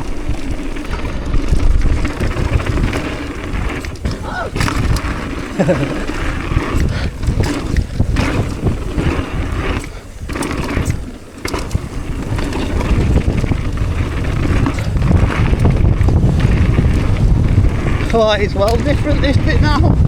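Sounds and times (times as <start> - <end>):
mountain bike rattling on dirt: 0.0 - 20.0
wind buffeting microphone: 0.0 - 20.0.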